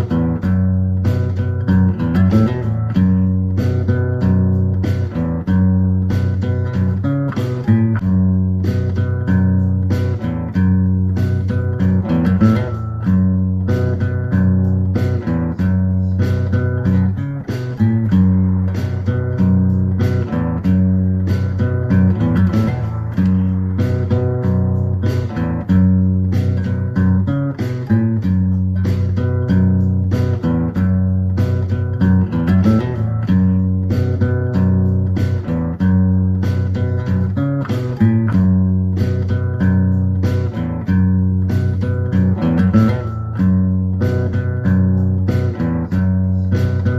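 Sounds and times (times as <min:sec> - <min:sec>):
guitar piece with bass: 0:00.0 - 0:46.9.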